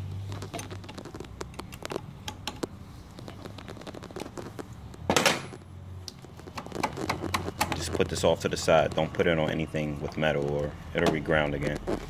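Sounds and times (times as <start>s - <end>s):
scraping rustle: 0.0s - 5.6s, 6.2s - 12.0s.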